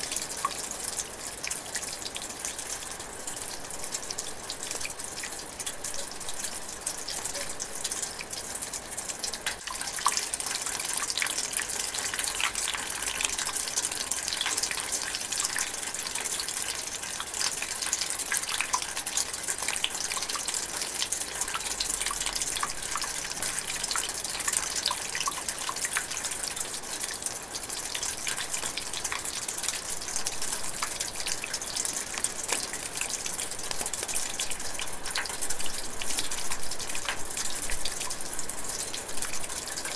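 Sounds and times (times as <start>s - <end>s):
light rain in a forest: 0.0s - 39.9s.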